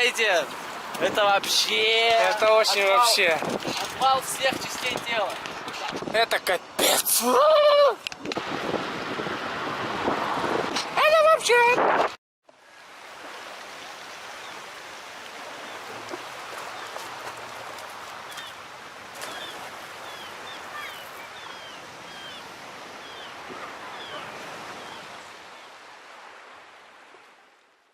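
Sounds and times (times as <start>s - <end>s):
running water: 0.0s - 11.7s, 12.5s - 27.9s.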